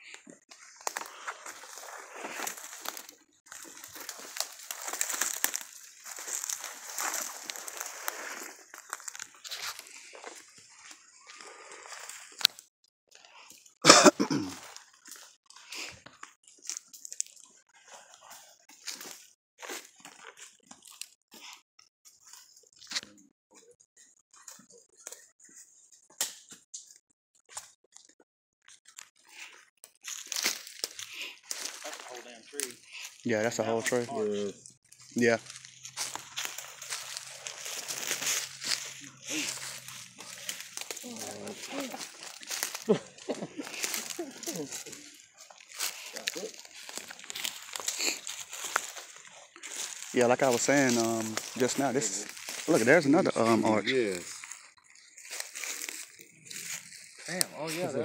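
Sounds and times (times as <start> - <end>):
footsteps crunching through dry leaves: 0.5 - 12.6, 13.8 - 21.6, 28.9 - 58.0.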